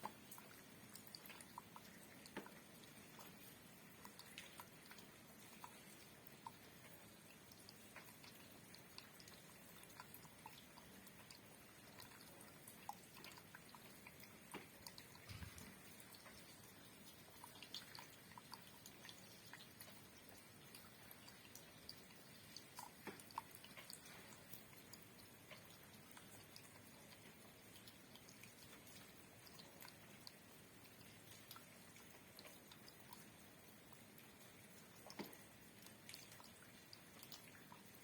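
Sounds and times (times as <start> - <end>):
raindrops dripping and ticking: 0.0 - 38.0
soft rain hiss: 0.0 - 38.0.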